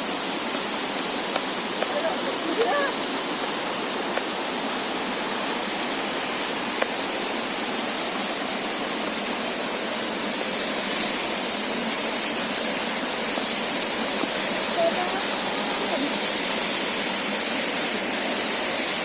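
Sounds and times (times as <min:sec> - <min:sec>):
waterfall hissing: 0:00.0 - 0:19.0.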